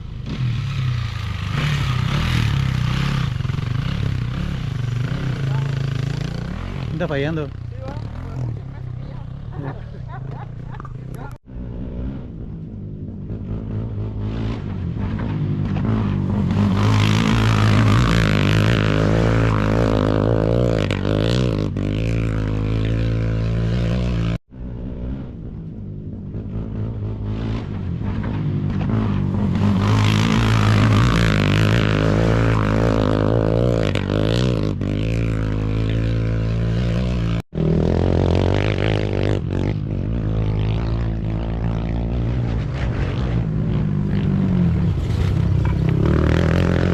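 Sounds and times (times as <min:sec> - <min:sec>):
racing vehicle engines revving: 0:00.0 - 0:46.9.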